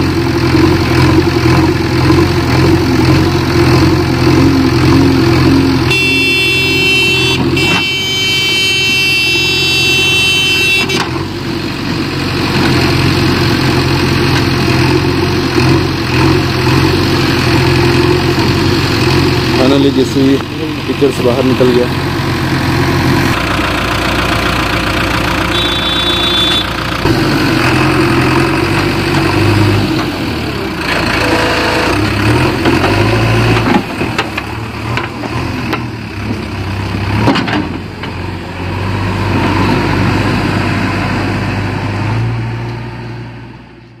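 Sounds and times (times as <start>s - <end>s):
diesel engine revving: 0.0s - 44.0s.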